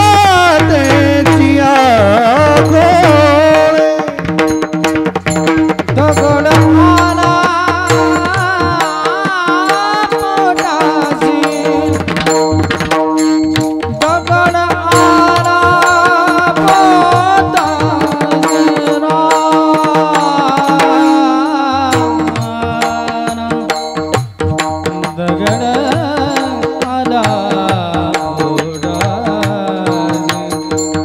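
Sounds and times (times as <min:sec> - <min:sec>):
tabla rhythm: 0:00.0 - 0:31.0.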